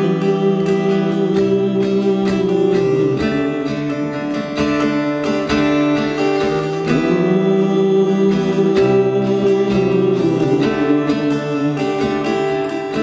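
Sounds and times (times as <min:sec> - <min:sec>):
acoustic guitar strumming chords: 0:00.0 - 0:13.0
long held melody notes: 0:00.0 - 0:13.0.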